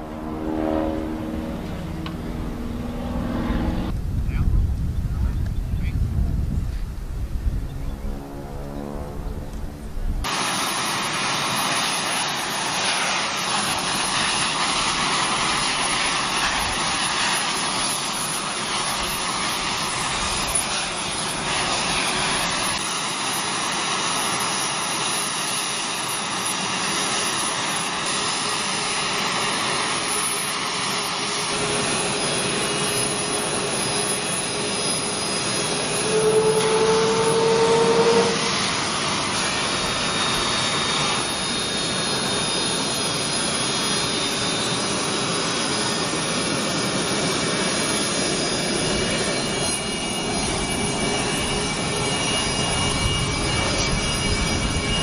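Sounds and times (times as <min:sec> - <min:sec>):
engine whine rising: 0:00.0 - 0:05.3, 0:06.8 - 0:55.0
jet engines running: 0:00.0 - 0:55.0.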